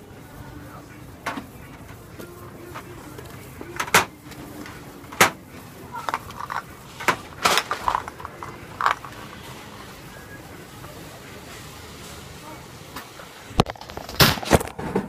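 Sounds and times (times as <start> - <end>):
low hum of store: 0.0 - 15.0.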